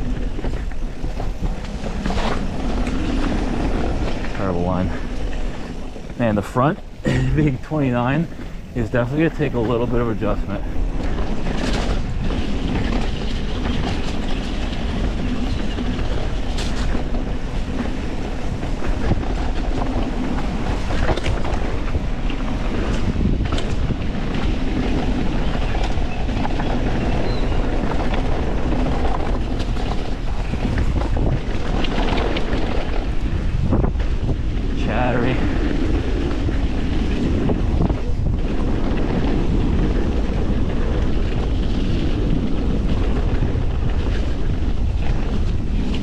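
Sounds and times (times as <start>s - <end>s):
bike rattling clicks and knocks: 0.0s - 46.0s
tyre roar on dirt: 0.0s - 46.0s
wind on camera microphone: 0.0s - 46.0s.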